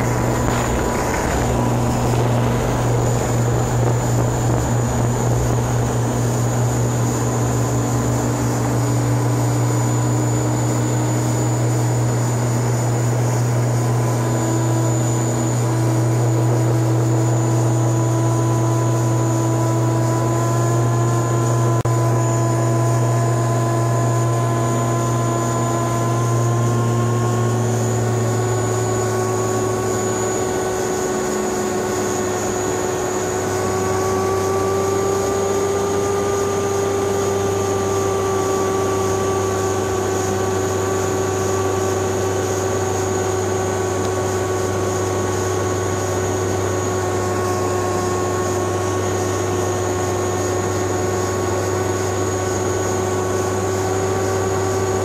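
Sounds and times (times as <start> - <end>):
propeller plane cabin drone: 0.0 - 55.0
whining engine tones: 0.0 - 55.0.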